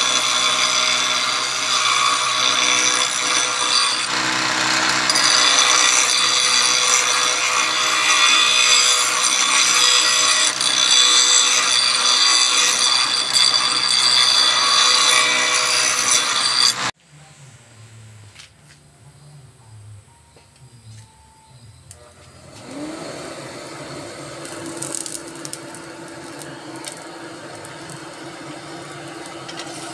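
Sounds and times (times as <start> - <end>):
grinding wheel on steel: 0.0 - 16.9, 21.9 - 29.9.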